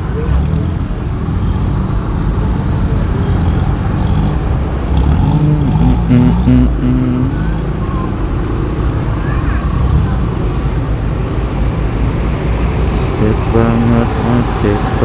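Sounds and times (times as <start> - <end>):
motorcycle engine rumble: 0.0 - 15.0
road noise: 0.0 - 15.0.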